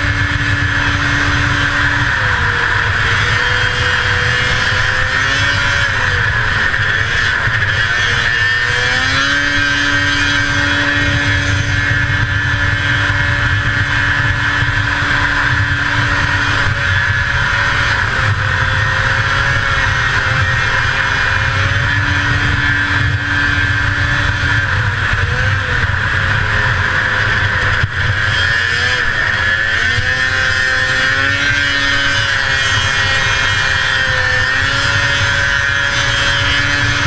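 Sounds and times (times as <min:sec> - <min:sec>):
snowmobile engine revving high: 0:00.0 - 0:37.0
steady rushing noise: 0:00.0 - 0:37.0.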